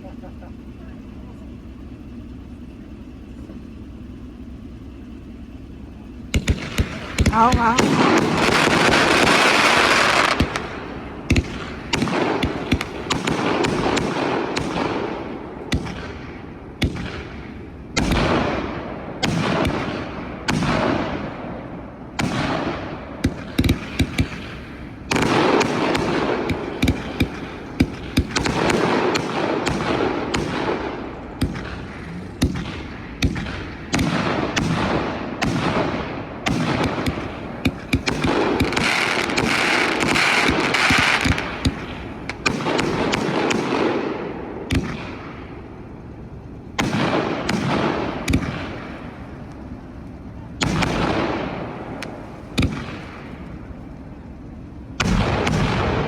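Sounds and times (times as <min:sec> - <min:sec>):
firework crackling: 0:00.0 - 0:56.0
firework reports: 0:00.0 - 0:56.0.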